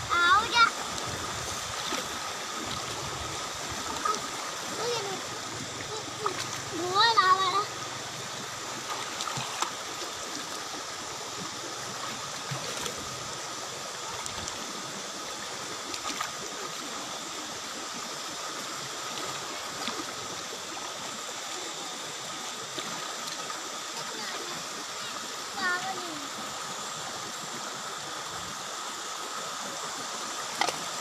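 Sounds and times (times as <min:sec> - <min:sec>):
water rushing over rocks: 0:00.0 - 0:31.0
small water splashes: 0:00.2 - 0:26.4, 0:30.4 - 0:31.0.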